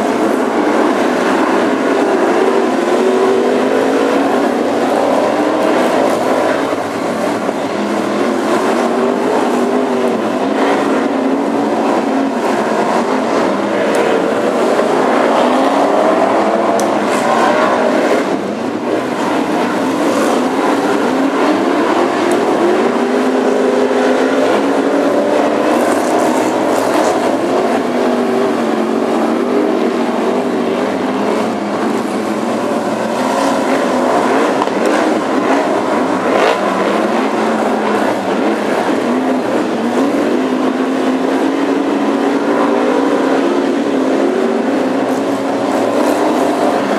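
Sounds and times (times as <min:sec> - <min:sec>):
racing car engines: 0:00.0 - 0:46.9.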